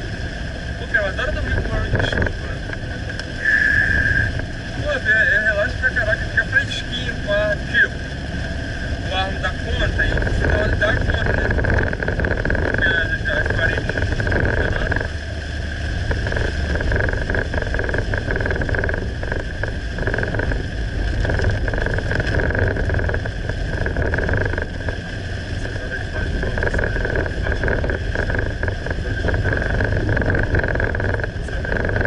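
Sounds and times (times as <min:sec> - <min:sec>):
car engine and tyre noise: 0:00.0 - 0:32.0
high-pitched hum: 0:01.2 - 0:32.0.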